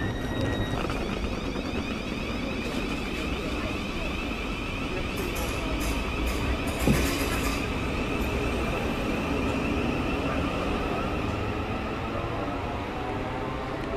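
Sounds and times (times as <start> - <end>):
train wheels rumbling on rails: 0.0 - 13.9.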